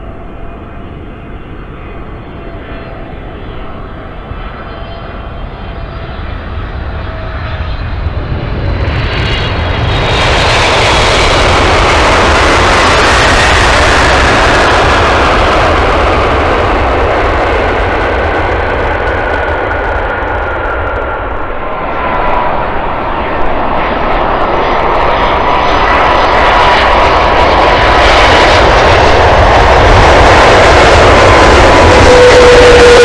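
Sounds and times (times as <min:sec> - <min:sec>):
jet engines whine and rumble: 0:00.0 - 0:33.0.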